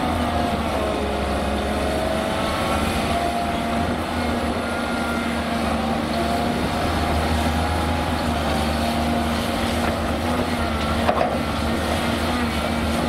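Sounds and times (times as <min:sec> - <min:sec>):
excavator diesel engine whining: 0:00.0 - 0:13.0.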